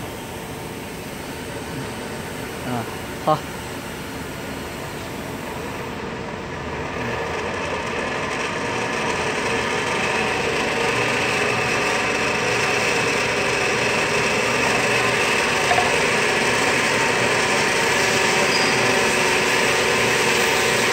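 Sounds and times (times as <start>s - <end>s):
vacuum pump running with whine: 0.0s - 20.9s.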